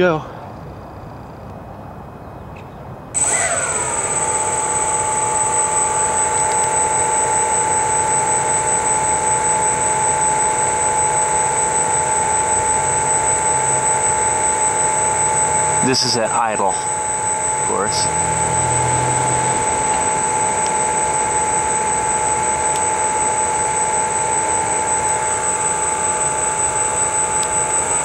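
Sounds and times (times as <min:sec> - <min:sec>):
electric motors and propellers whining: 0:03.2 - 0:28.0.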